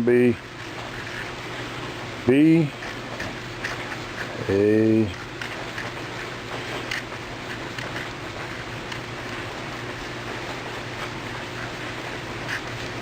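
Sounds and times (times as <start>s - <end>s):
low electrical hum: 0.0s - 13.0s
steady hiss: 0.0s - 13.0s.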